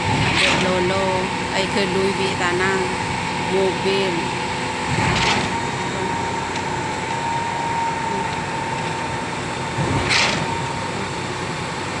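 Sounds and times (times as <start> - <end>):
machine humming and whining: 0.0 - 12.0.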